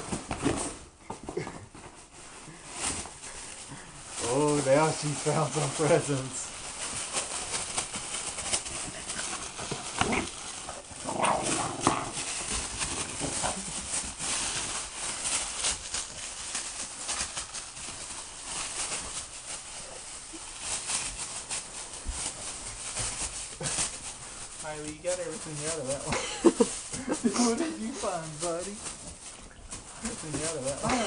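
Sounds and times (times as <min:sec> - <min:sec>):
wrapping paper tearing: 0:03.5 - 0:31.0.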